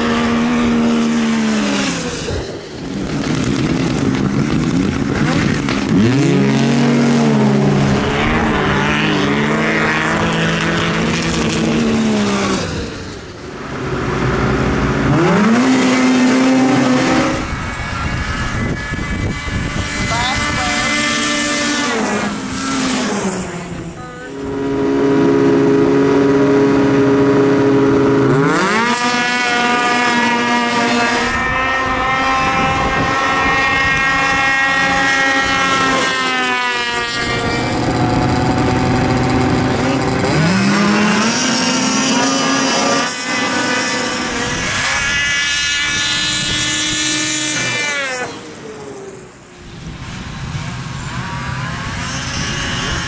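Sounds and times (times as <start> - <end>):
snowmobile engines at full throttle: 0.0 - 53.0.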